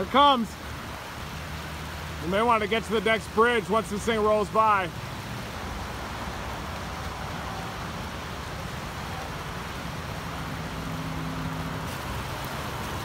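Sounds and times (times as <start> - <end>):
flood water rushing down a creek: 0.0 - 13.0.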